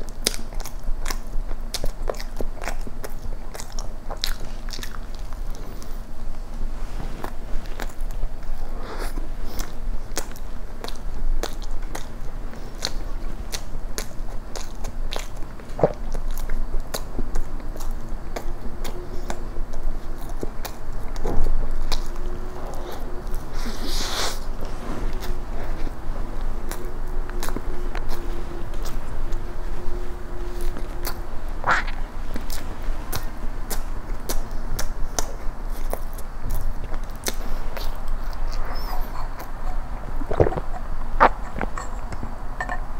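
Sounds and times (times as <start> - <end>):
person chewing wet food: 0.0 - 42.9.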